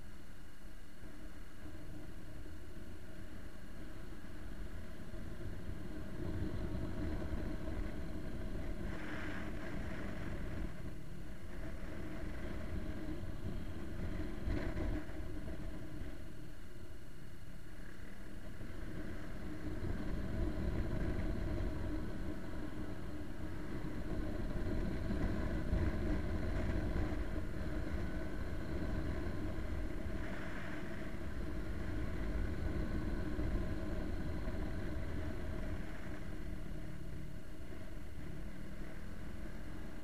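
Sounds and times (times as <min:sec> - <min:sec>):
wind: 0:00.0 - 0:40.0.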